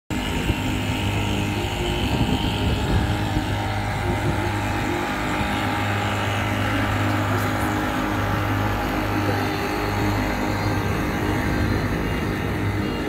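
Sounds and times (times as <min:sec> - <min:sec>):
motorboat engine humming: 0:00.1 - 0:13.0
wind: 0:00.1 - 0:13.0.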